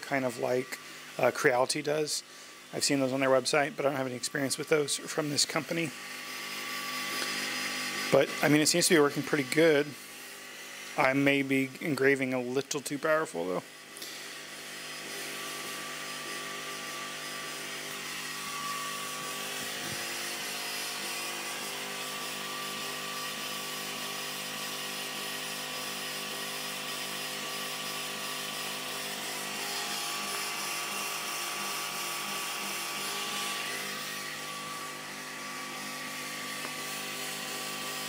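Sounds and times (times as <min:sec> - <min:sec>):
laser engraver machine whir: 0:00.0 - 0:38.0.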